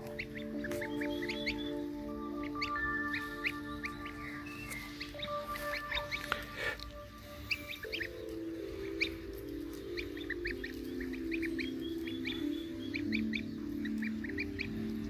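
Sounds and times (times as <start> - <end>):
goslings peeping: 0.0 - 15.0
music of long low notes: 0.0 - 15.0.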